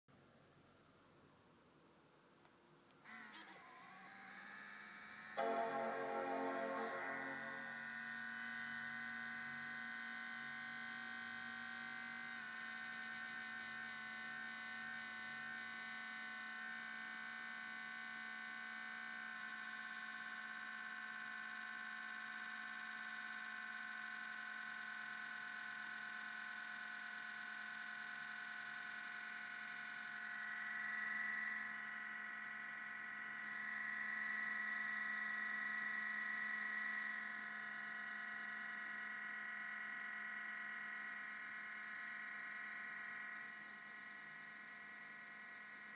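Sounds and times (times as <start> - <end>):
laptop cooling fan whine: 0.2 - 45.9.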